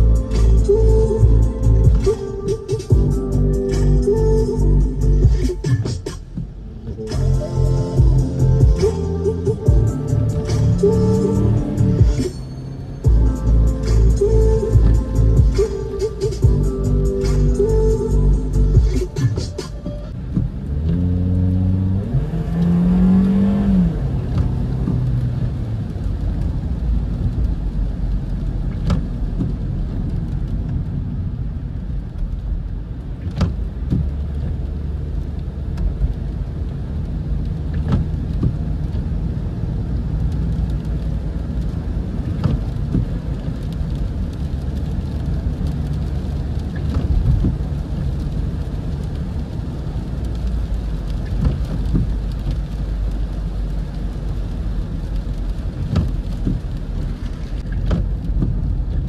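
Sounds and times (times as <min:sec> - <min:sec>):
car engine rumbling: 0:00.0 - 0:59.0
wet-road tyre noise: 0:00.0 - 0:59.0.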